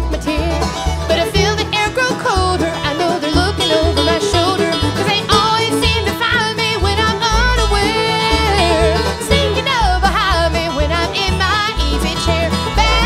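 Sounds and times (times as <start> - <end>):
banjo rolls: 0.0 - 13.0
strummed acoustic guitar: 0.0 - 13.0
upright bass line: 0.0 - 13.0
woman singing: 0.0 - 13.0.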